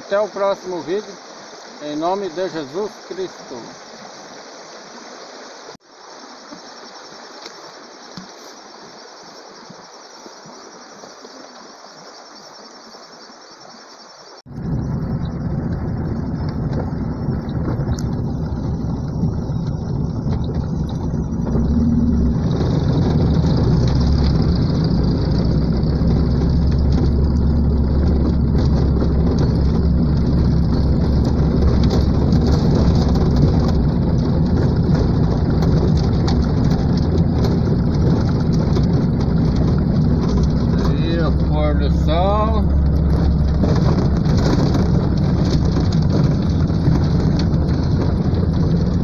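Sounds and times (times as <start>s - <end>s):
car engine and tyre rumble: 3.8s - 49.0s.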